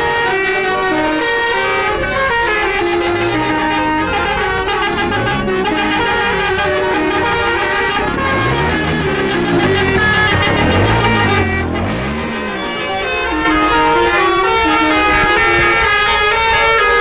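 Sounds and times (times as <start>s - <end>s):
musical horn playing a melody: 0.0s - 17.0s.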